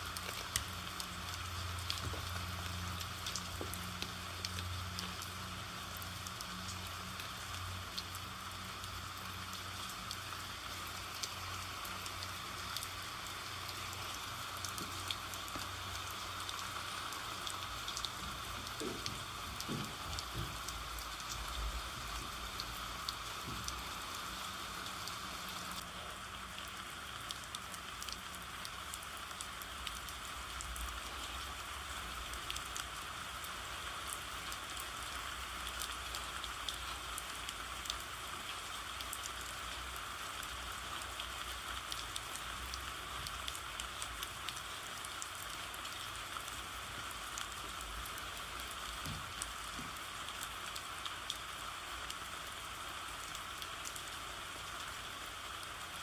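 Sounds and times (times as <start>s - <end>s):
raindrop ticks: 0.0s - 25.9s, 26.5s - 54.1s
steady rain falling: 0.0s - 56.0s.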